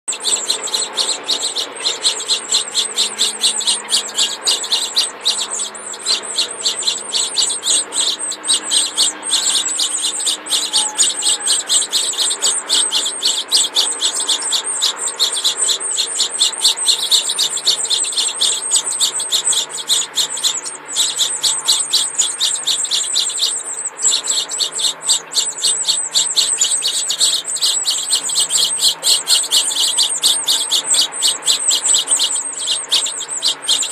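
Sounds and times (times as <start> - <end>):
nestlings chirping: 0.1 - 33.9.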